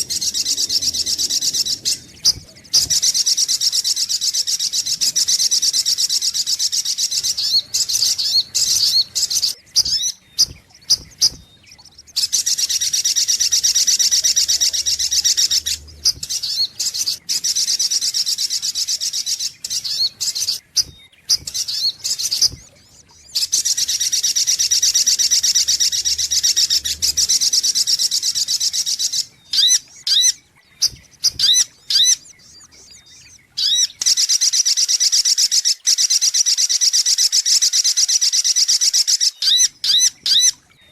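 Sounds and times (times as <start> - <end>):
bird song trilling and chirping: 0.0 - 40.9.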